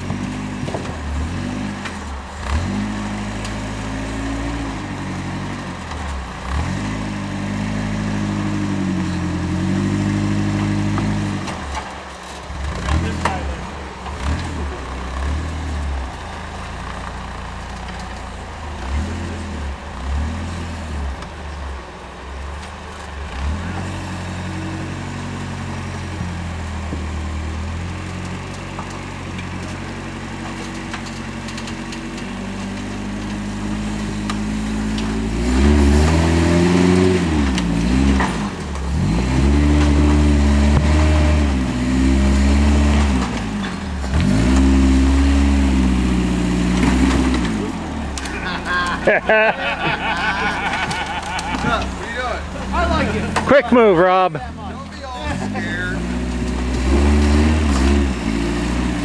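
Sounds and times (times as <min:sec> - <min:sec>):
buggy engine revving: 0:00.0 - 0:59.0.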